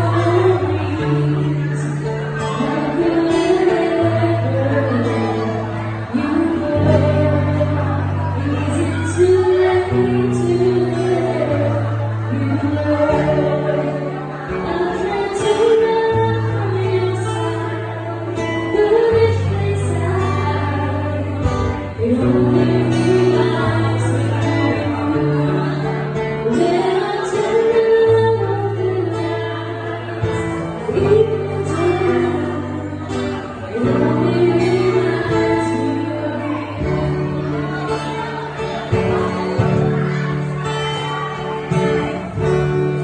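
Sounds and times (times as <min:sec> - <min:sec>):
guitar accompaniment: 0:00.0 - 0:43.0
woman singing into microphone: 0:00.0 - 0:43.0.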